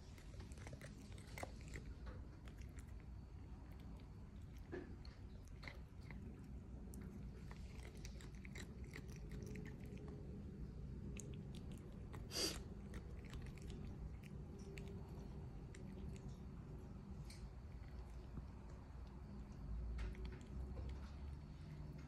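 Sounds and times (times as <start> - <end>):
cat chewing grass: 0.0 - 22.0.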